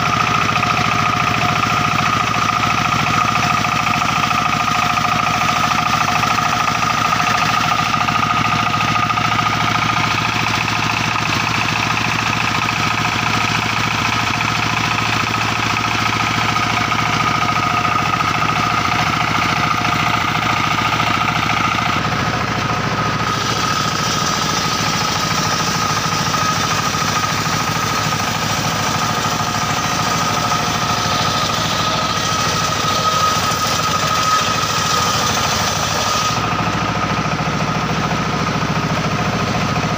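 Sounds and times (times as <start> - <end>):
circular saw sawmill running: 0.0 - 39.9.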